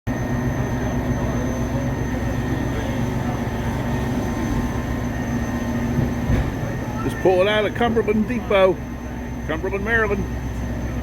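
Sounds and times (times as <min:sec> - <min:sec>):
diesel locomotive engine drone: 0:00.1 - 0:11.0.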